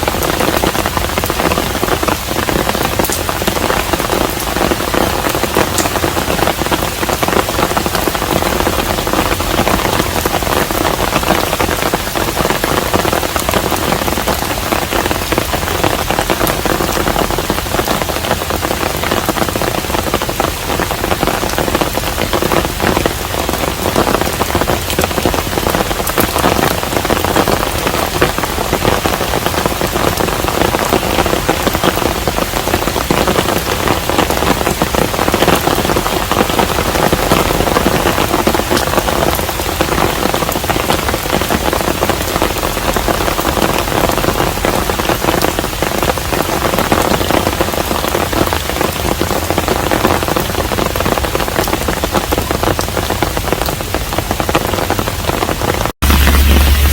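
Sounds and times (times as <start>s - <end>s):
rain pattering on a roof: 0.0s - 56.9s.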